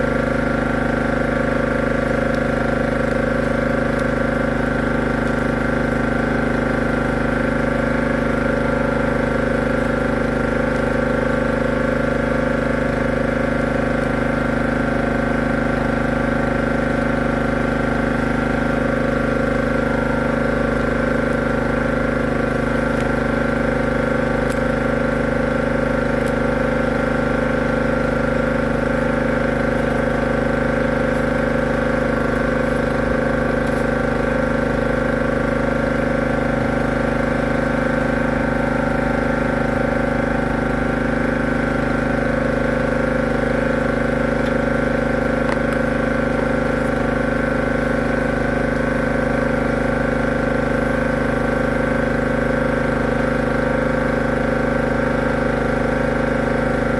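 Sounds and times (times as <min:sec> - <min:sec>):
machine motor humming: 0:00.0 - 0:56.9.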